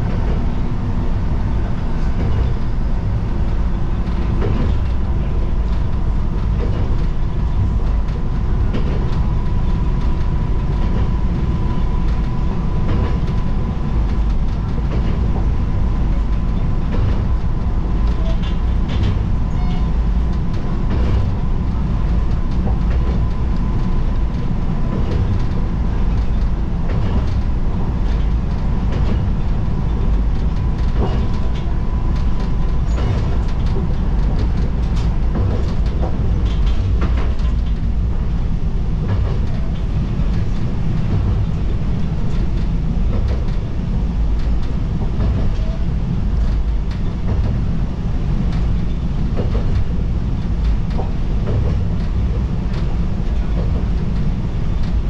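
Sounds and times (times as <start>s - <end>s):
railcar running rumble: 0.0s - 55.0s.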